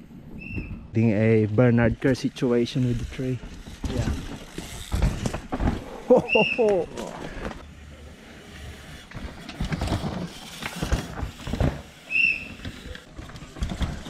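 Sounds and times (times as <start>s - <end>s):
bike chain and suspension rattling: 1.0s - 14.0s
tyres on loose dirt: 1.2s - 14.0s.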